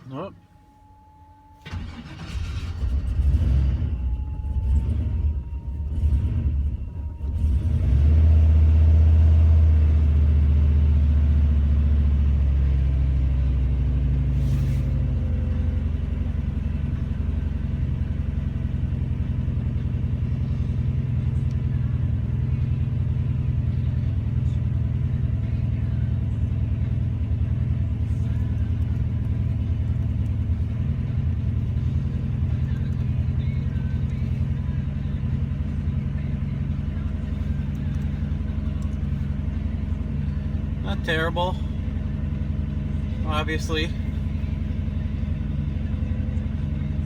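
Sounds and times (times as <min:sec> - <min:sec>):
engine cold start idling: 0:01.5 - 0:08.6, 0:14.0 - 0:47.0.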